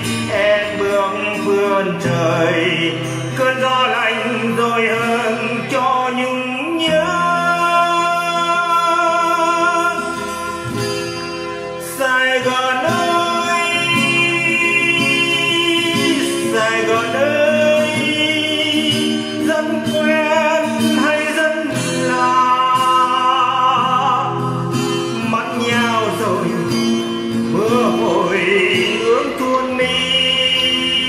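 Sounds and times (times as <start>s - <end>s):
acoustic guitar: 0.0s - 31.0s
person singing a slow ballad: 0.0s - 31.0s.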